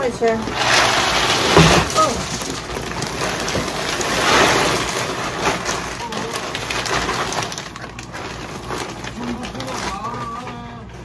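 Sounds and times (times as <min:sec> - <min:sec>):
cat litter pellets pouring: 0:00.0 - 0:11.0.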